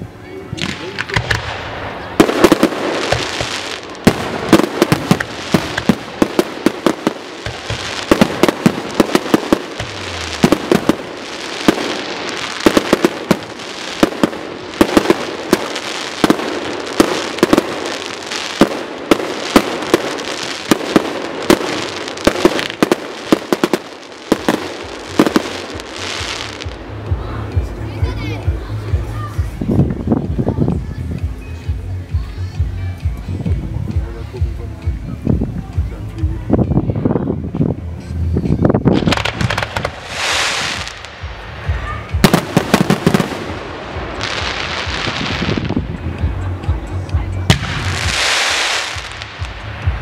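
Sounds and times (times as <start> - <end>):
firework crackling: 0.0 - 30.9, 38.6 - 50.0
fireworks banging: 0.6 - 30.4, 38.7 - 50.0.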